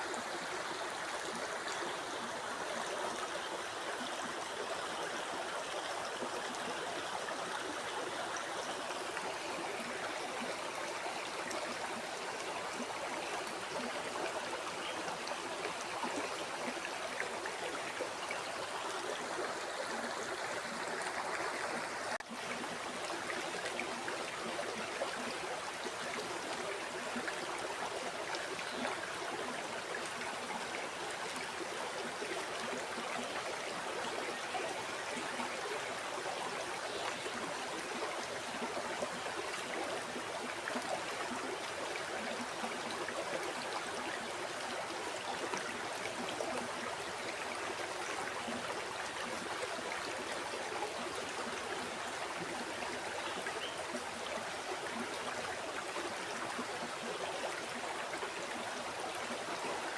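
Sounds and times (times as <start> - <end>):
river water flowing and splashing: 0.0 - 59.9.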